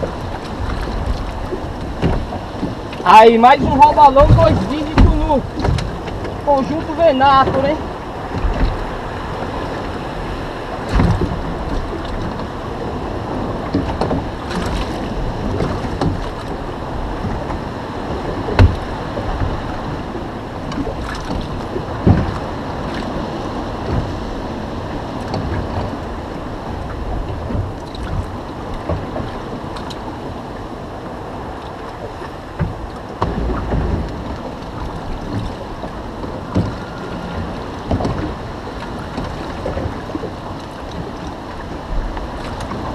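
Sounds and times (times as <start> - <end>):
water lapping against boat hull: 0.0 - 42.9
wind buffeting microphone: 0.0 - 42.9.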